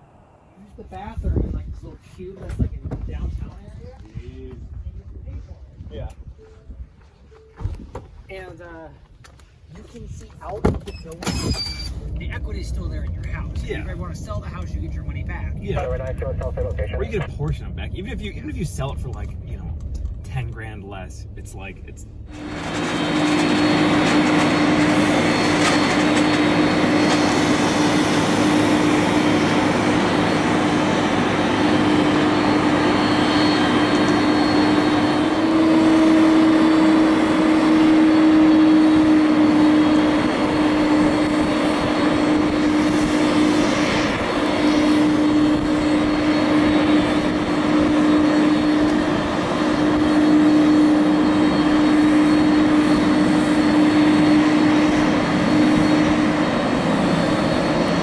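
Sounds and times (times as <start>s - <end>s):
aircraft engines droning: 0.0s - 7.5s, 9.4s - 58.0s.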